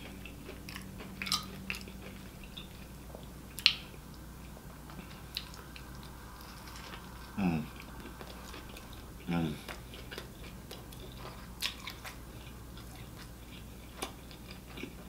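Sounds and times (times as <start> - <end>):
person chewing and smacking: 0.0 - 15.0.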